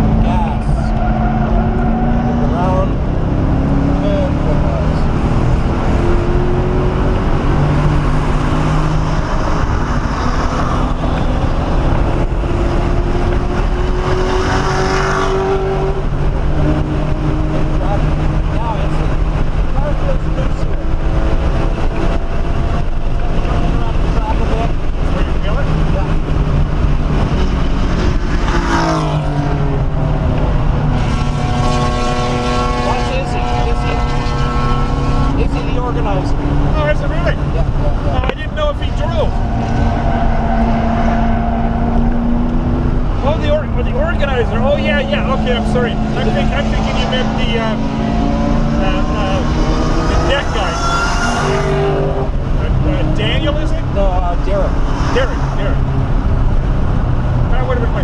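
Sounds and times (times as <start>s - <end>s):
car engine under load: 0.0s - 58.0s
road and wind noise: 0.0s - 58.0s.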